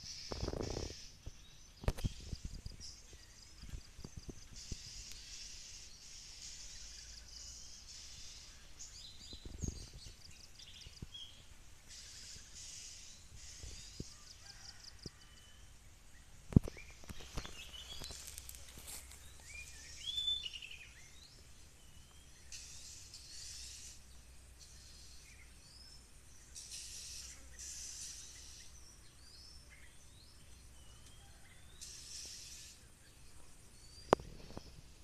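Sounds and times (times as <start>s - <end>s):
insect buzz: 0.0s - 15.2s, 16.5s - 35.0s
bird chirps and calls: 0.0s - 15.7s, 16.6s - 34.9s.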